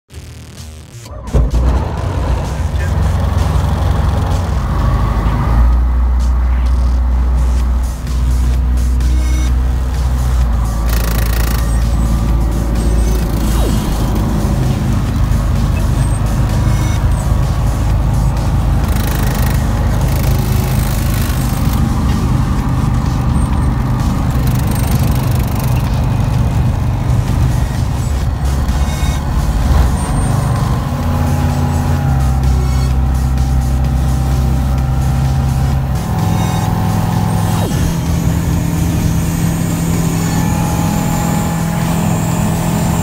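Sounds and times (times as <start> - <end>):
light aircraft engine droning: 1.2 - 43.0.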